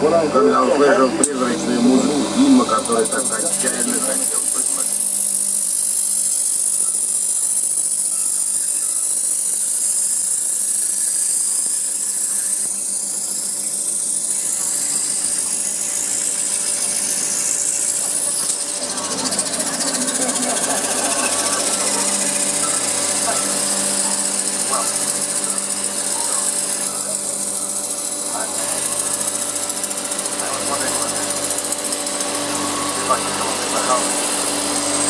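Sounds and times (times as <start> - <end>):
motor hum: 0.0 - 35.0
high hissing grind: 0.1 - 35.0.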